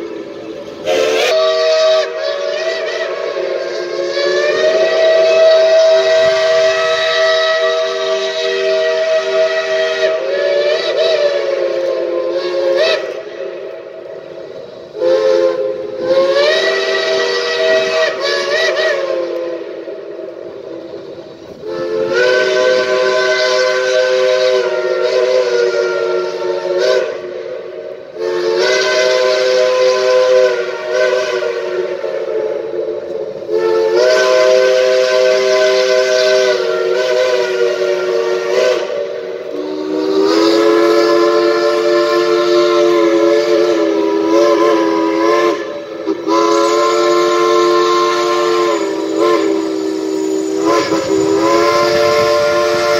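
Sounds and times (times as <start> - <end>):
steam whistle blasts: 0.0 - 52.9.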